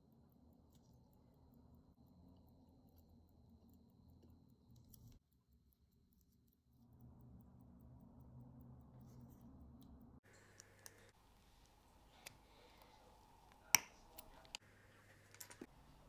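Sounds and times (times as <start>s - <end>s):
watch ticking: 0.0s - 14.6s.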